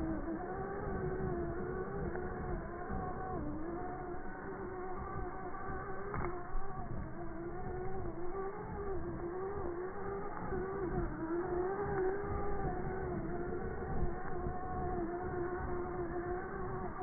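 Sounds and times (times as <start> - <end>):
electric toy car motor whining: 0.0 - 17.0.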